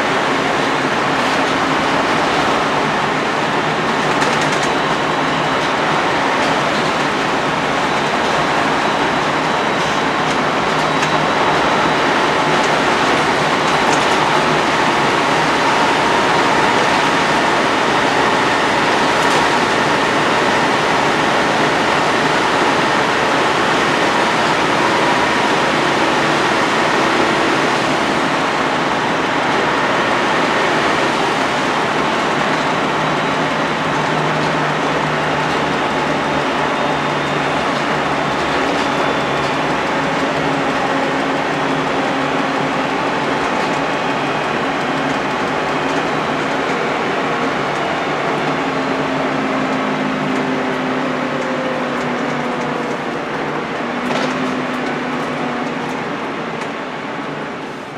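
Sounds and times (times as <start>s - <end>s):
bus cabin engine and road drone: 0.0s - 57.9s.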